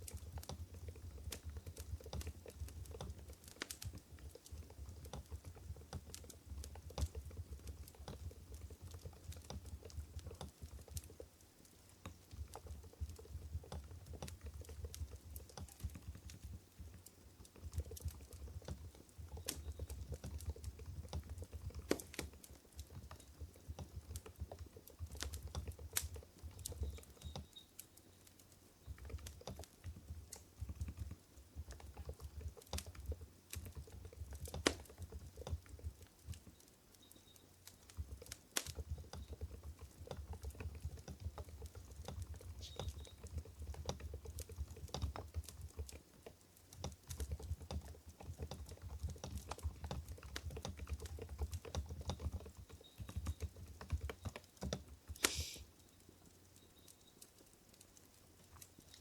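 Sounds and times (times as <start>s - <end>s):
soft muted keyboard typing: 0.0s - 59.0s.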